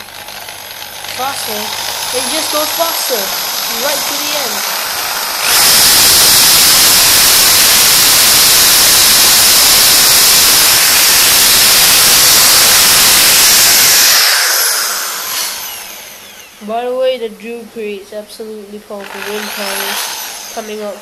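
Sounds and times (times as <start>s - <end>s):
drill winding down whine: 0.0s - 16.6s, 19.0s - 21.0s
hammer drill running: 0.0s - 16.6s, 19.0s - 21.0s.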